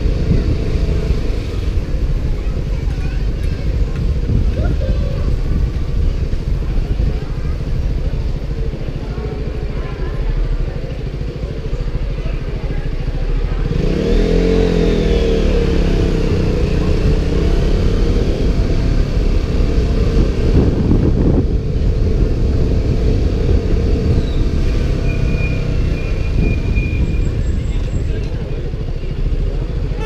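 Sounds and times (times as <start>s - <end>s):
wind noise on microphone: 0.0s - 9.2s, 13.7s - 29.0s
motorcycle engine running: 0.0s - 30.0s.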